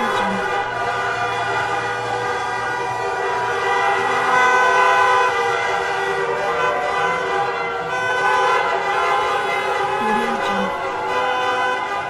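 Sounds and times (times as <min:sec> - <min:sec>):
car horns honking: 0:00.0 - 0:12.0
crowd cheering: 0:00.0 - 0:12.0.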